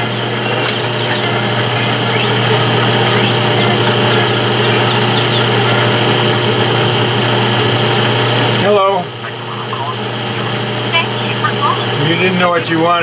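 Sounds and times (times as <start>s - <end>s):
metal lathe humming and whining: 0.0s - 12.3s.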